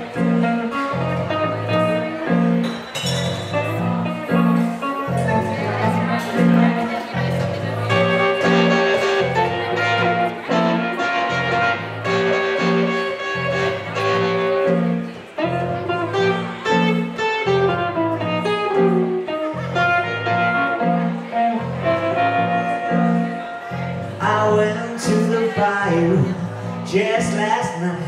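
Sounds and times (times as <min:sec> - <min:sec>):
electric guitar: 0:00.0 - 0:28.0
keyboard: 0:00.0 - 0:28.0.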